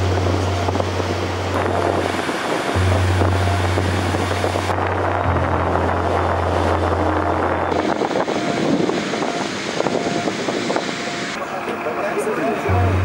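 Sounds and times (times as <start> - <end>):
steady low hum: 0.0 - 11.4
sea surf breaking: 0.0 - 13.0
wind buffeting microphone: 0.0 - 13.0.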